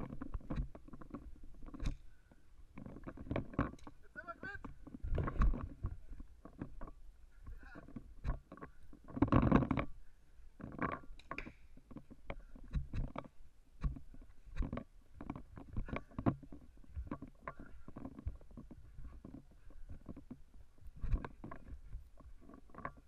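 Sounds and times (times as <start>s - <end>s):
gear rattling and rubbing: 2.7s - 10.0s, 10.6s - 23.0s.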